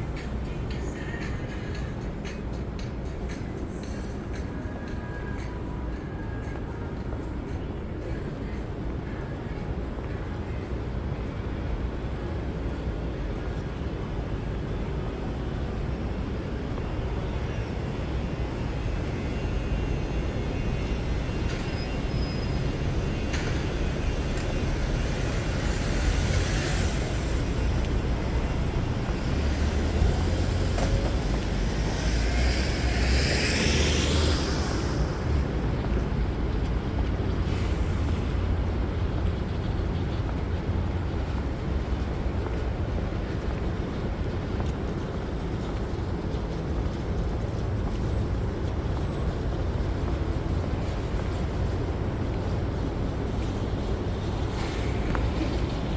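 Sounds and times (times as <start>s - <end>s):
traffic rumble: 0.0s - 55.9s.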